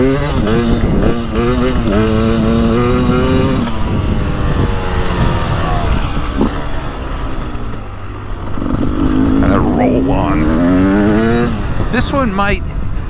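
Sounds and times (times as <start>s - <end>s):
dirt bike engine revving: 0.0s - 12.5s.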